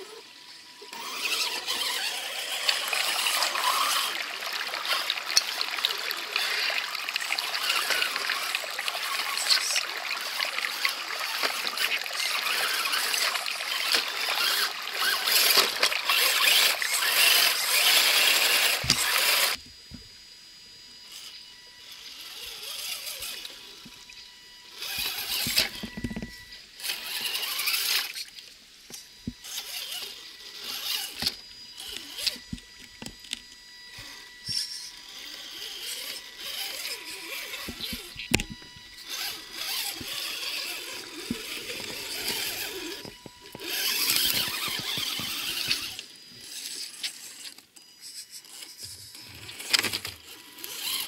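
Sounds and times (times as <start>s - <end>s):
electric motor whining: 0.0s - 51.0s.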